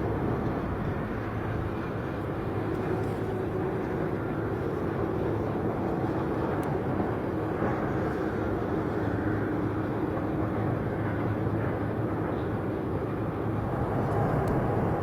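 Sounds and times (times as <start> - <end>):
jet airliner engines: 0.0 - 15.0.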